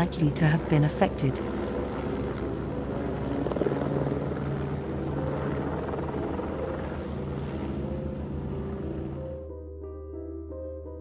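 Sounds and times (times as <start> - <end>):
helicopter rotor chopping: 0.0 - 9.1.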